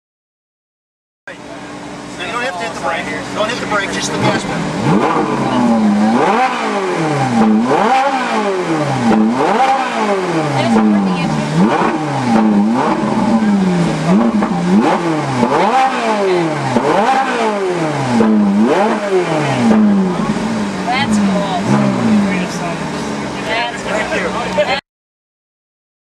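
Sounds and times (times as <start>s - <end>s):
car engine revving: 1.3s - 24.8s.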